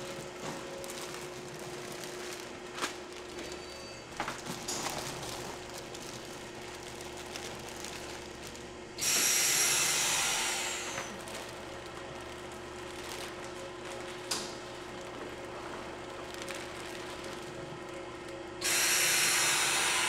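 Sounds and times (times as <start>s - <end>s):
bag rustling: 0.0s - 8.8s, 10.9s - 18.2s
steady machine hum: 0.0s - 20.0s.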